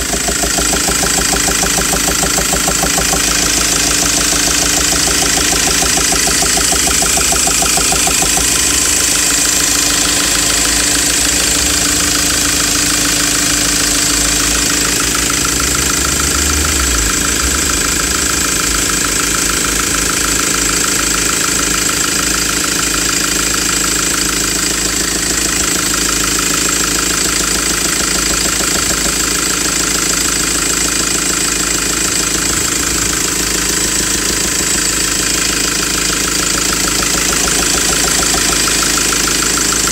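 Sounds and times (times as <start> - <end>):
engine knocking: 0.0 - 39.9
van engine idling: 0.0 - 39.9.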